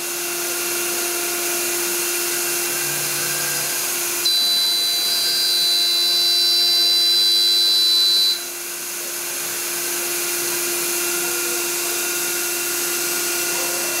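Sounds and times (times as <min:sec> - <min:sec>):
router spindle high whine: 0:00.0 - 0:14.0
steady machine hum: 0:00.0 - 0:14.0.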